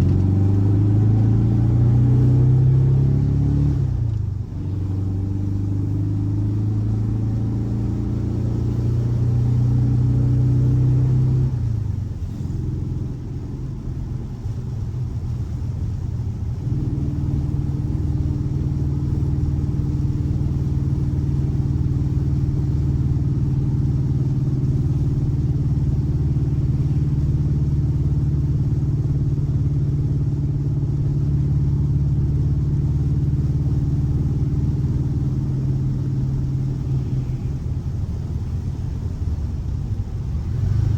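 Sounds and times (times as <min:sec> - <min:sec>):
boxer engine running: 0:00.0 - 0:40.9.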